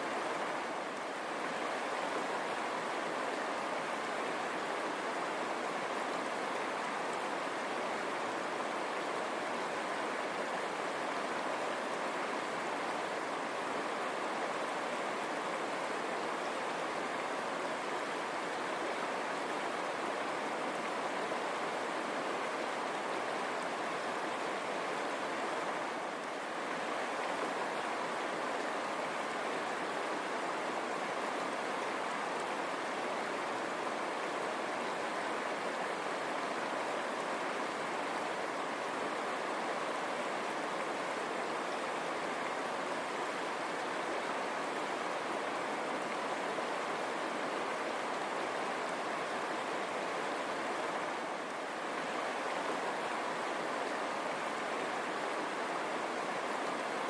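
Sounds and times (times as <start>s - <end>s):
river water splashing over rocks: 0.0s - 57.0s.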